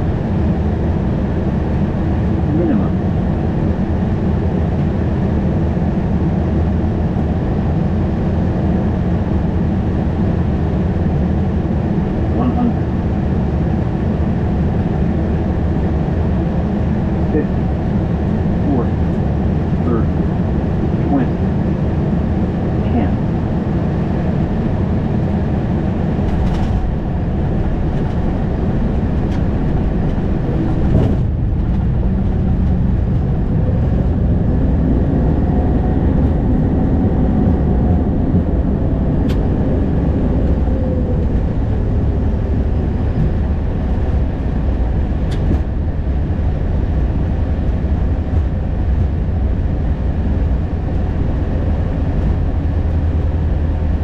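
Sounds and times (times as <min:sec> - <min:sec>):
aircraft cockpit low rumble: 0:00.0 - 0:54.0.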